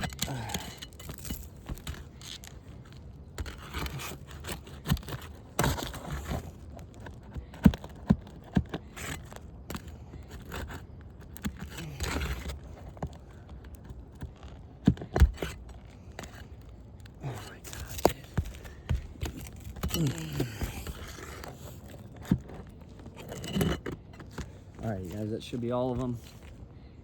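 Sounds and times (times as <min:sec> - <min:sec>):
roof shingles scraping: 0:00.0 - 0:26.6.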